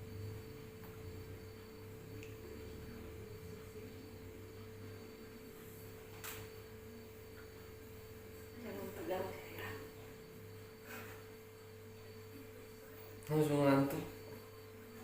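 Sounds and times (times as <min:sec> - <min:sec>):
constant mid-pitched tone: 0:00.0 - 0:15.0
faint hum: 0:00.0 - 0:15.0.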